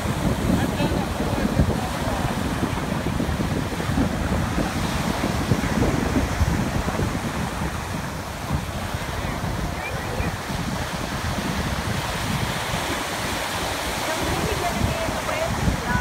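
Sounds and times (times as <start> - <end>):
surf breaking at shoreline: 0.0 - 16.0
wind buffeting microphone: 0.0 - 16.0.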